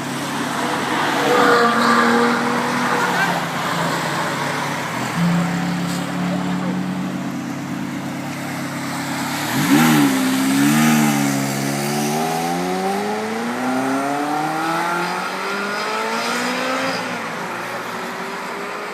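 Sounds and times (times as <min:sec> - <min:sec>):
car engine revving and accelerating: 0:00.0 - 0:18.9.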